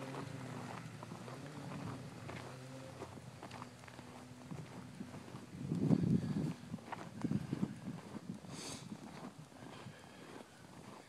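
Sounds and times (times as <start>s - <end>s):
distant snowmobile engine: 0.0s - 11.0s
footsteps crunching in snow: 0.0s - 11.0s.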